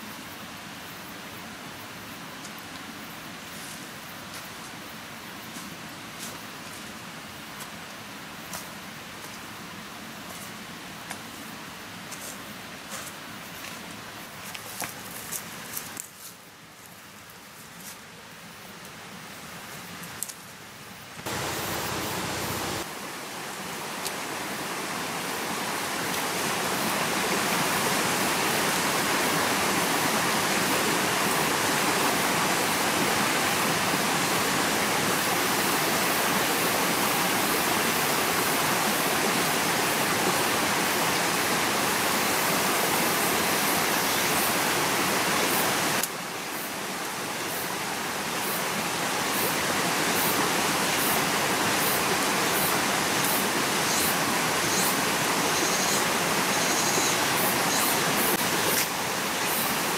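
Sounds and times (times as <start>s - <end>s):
steady rushing water noise: 0.0s - 59.9s.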